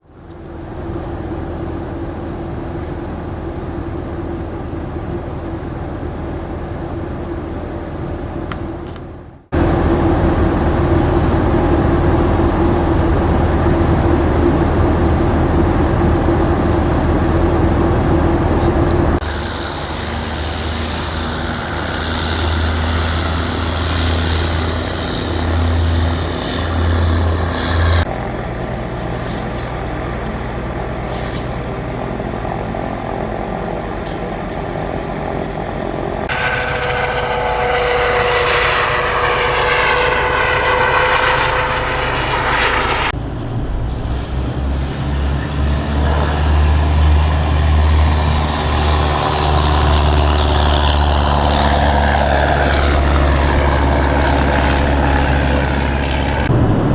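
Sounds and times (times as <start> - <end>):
helicopter turbine and rotor: 0.0 - 56.9.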